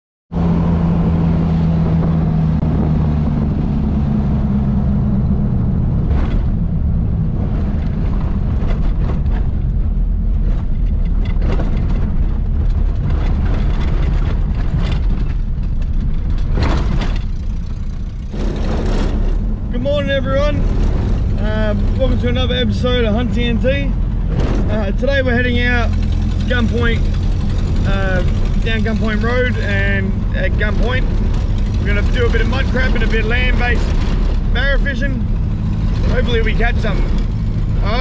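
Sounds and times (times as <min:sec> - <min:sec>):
car engine and road drone: 0:00.3 - 0:38.0
car rattling on dirt track: 0:00.4 - 0:38.0.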